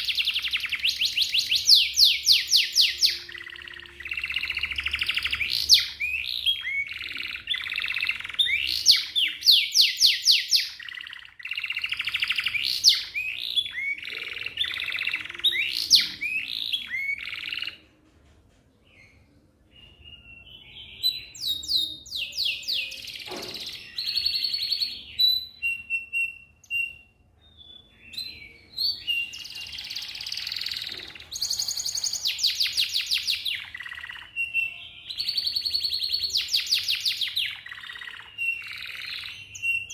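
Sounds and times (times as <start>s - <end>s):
canary singing trills: 0.0s - 17.9s, 18.9s - 39.9s.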